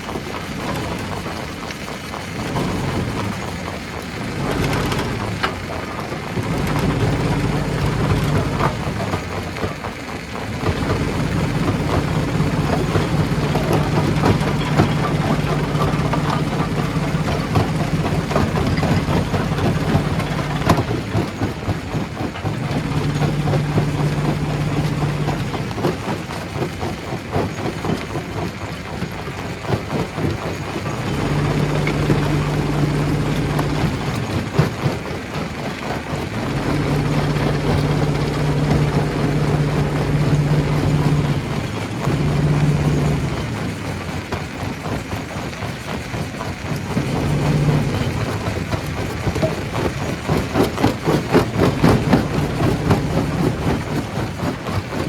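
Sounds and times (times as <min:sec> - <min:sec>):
rocks cracking and clattering: 0:00.0 - 0:55.0
low motor hum: 0:00.1 - 0:28.6, 0:29.7 - 0:55.0.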